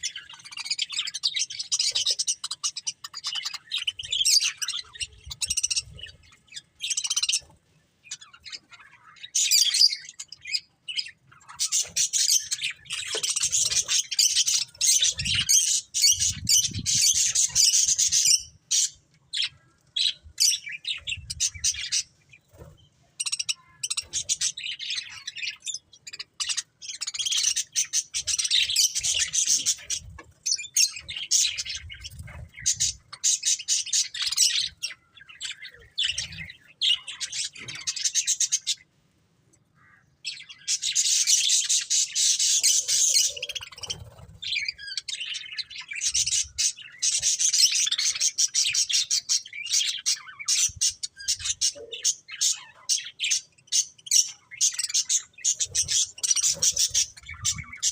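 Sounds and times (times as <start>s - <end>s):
budgerigars chattering and chirping: 0.0s - 38.9s, 39.8s - 57.9s.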